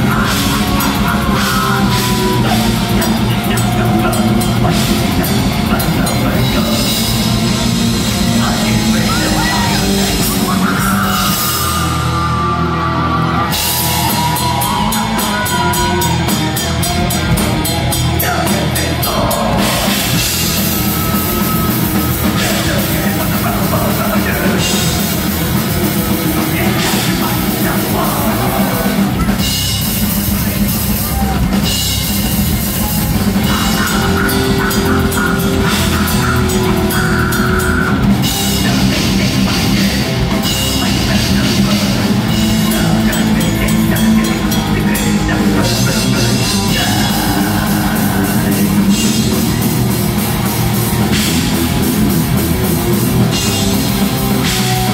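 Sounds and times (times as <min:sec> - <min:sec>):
distorted guitars: 0:00.0 - 0:54.9
fast drumming: 0:00.0 - 0:54.9.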